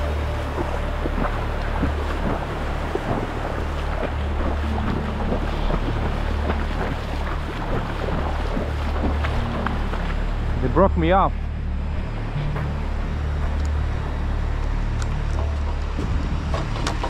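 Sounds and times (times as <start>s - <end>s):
water splashes: 0.0s - 17.0s
wind buffeting microphone: 0.0s - 17.0s.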